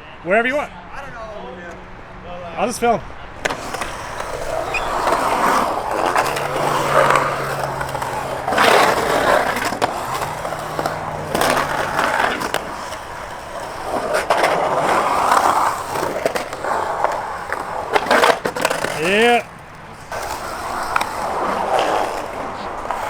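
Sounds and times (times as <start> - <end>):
skateboard wheels rolling on concrete: 2.8 - 23.0
skateboard clicks: 3.4 - 23.0
skateboard hit or scrape: 3.4 - 23.0.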